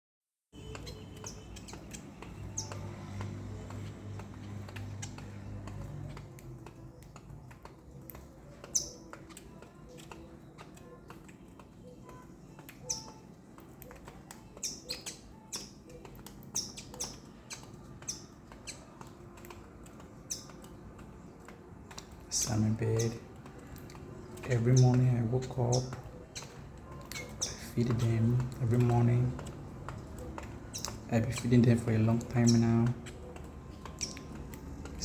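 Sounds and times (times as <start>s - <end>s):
faint clicking and tapping: 0.5s - 35.0s
small birds chirping: 0.5s - 35.0s.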